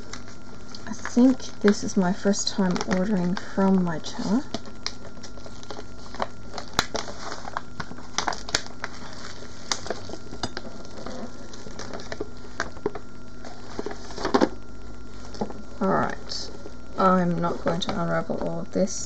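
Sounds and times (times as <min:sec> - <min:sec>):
plastic sheet crinkling: 0:00.0 - 0:18.5.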